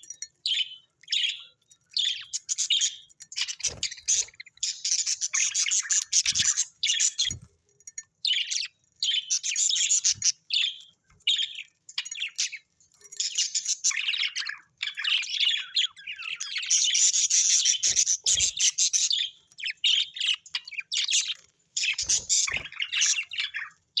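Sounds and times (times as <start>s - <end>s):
parrots chattering and chirping: 0.0s - 24.0s.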